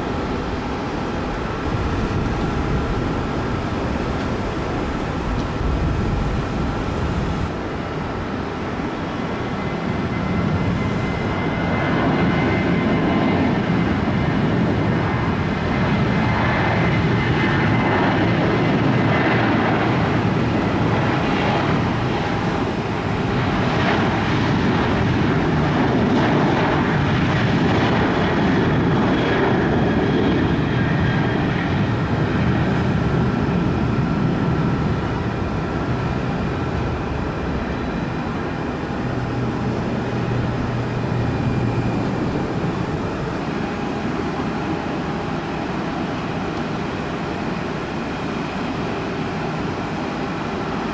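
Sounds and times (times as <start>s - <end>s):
airliner engines running: 0.0s - 50.9s.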